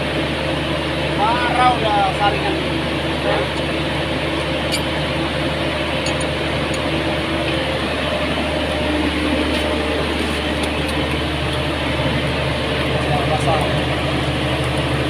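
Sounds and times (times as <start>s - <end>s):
mill machinery droning: 0.0s - 15.0s.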